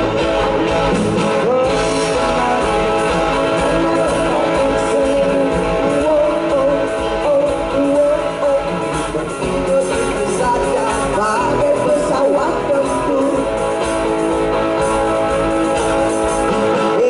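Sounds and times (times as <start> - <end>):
live rock band: 0.0 - 17.0
man singing: 0.8 - 13.8, 15.8 - 17.0.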